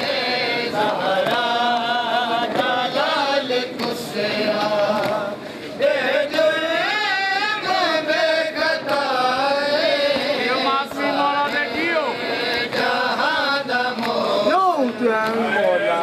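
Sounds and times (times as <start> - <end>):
rhythmic chest-beating: 0.0 - 16.0.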